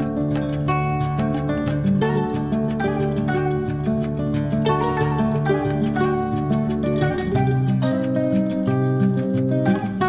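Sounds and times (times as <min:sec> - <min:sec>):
background music with quick notes: 0:00.0 - 0:10.0.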